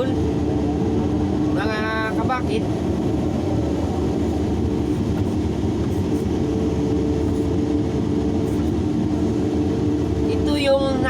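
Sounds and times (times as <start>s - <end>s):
excavator diesel engine rumbling: 0.0s - 11.0s
higher engine tone: 0.0s - 11.0s.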